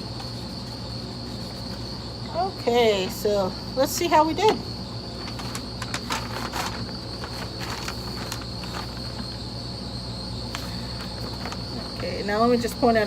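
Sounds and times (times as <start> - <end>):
insects chirring: 0.0 - 13.0
low background hum: 0.0 - 13.0.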